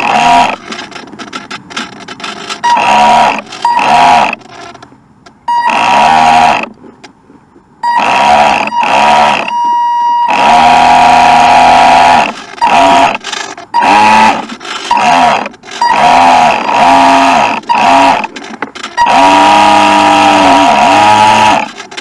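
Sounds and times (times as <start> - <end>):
boat motor revving: 0.0 - 4.8, 5.5 - 6.8, 7.8 - 22.0.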